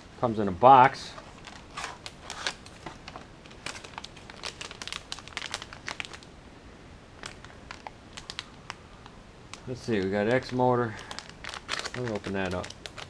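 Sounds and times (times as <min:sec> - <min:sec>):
anti-static bag crinkling: 0:01.1 - 0:06.3, 0:07.2 - 0:13.0.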